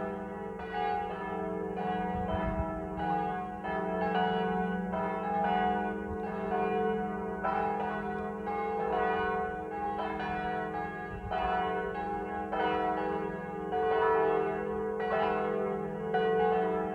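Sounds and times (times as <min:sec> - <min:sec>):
church bells ringing: 0:00.0 - 0:16.9.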